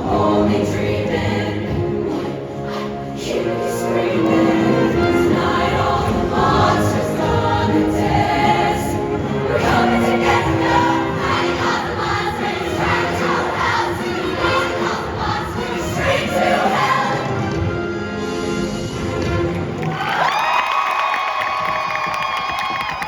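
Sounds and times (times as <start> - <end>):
choir singing in harmony: 0.0 - 18.6.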